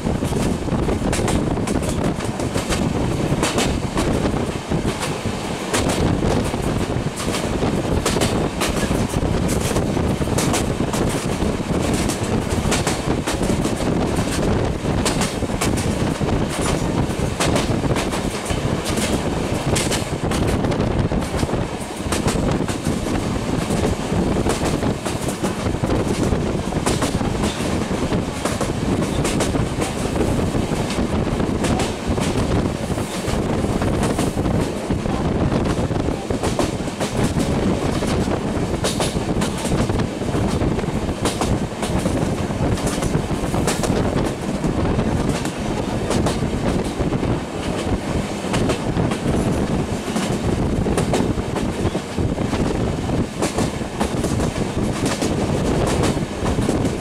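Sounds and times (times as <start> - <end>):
train rumble: 0.0 - 57.0.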